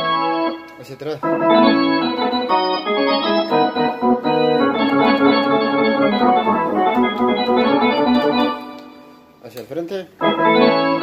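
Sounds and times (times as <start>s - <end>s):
synthesizer organ chords: 0.0s - 9.4s, 10.2s - 11.0s.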